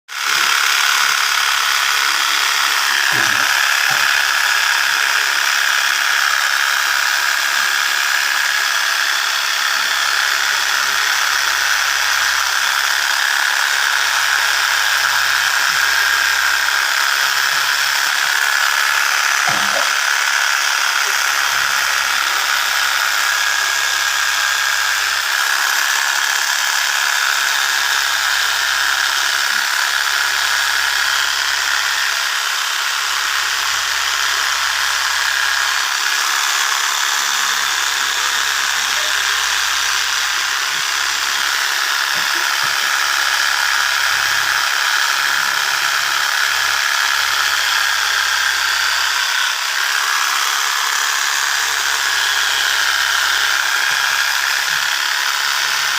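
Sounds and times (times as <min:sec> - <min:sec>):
small electric motor whining: 0:00.1 - 0:55.9.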